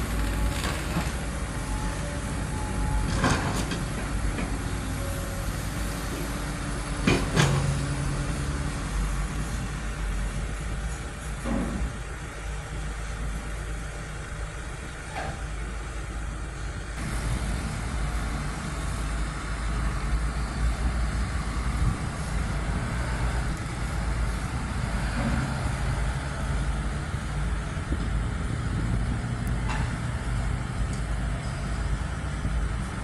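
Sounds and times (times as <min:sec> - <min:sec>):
diesel truck engines rumbling: 0:00.0 - 0:33.0.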